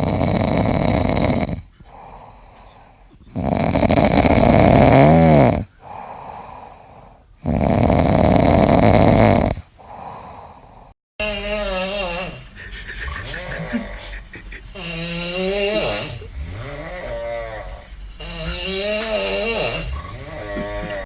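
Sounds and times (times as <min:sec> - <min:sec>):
cat snoring: 0:00.0 - 0:02.3, 0:03.3 - 0:12.6, 0:14.7 - 0:21.0.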